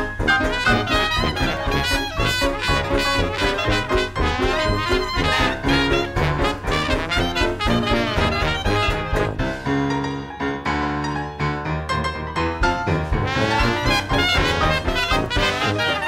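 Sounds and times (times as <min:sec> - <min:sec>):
brass-led music with steady beat: 0:00.0 - 0:10.0, 0:12.6 - 0:16.0.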